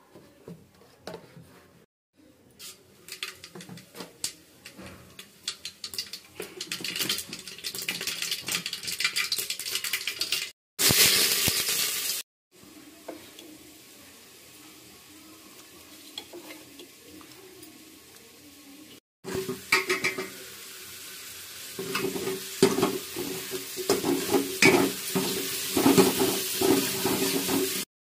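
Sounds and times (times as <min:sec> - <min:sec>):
liquid sizzling and crackling in pot: 0:02.6 - 0:27.9.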